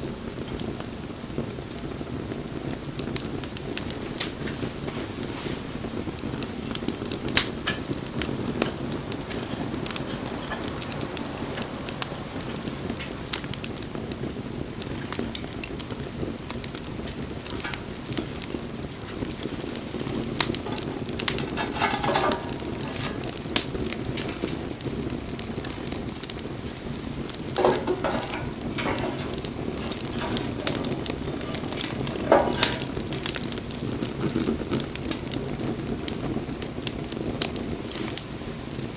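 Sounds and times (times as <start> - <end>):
bonfire rushing: 0.0 - 38.9
burning wood sizzling: 0.0 - 38.9
fire crackling and popping: 0.0 - 38.9.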